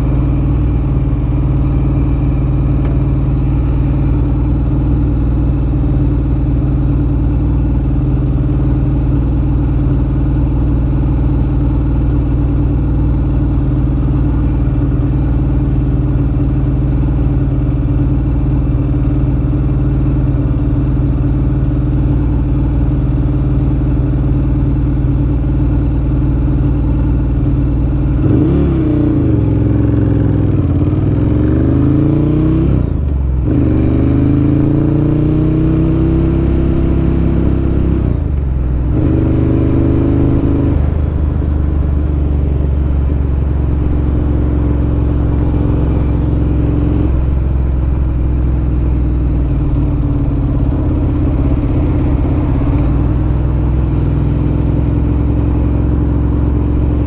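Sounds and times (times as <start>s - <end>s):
motorcycle engine idling: 0.0s - 32.1s, 36.6s - 57.0s.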